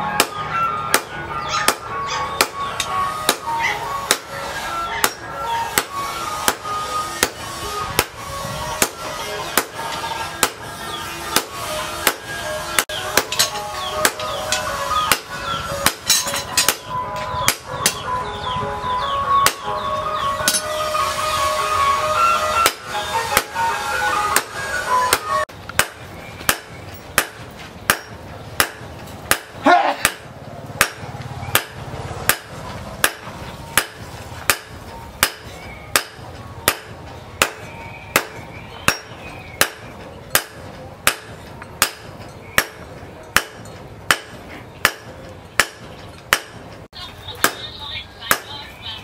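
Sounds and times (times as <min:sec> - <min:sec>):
hammer striking hot steel: 0:00.1 - 0:04.4, 0:05.0 - 0:08.2, 0:08.8 - 0:18.0, 0:20.4 - 0:20.8, 0:22.4 - 0:23.6, 0:24.3 - 0:46.7.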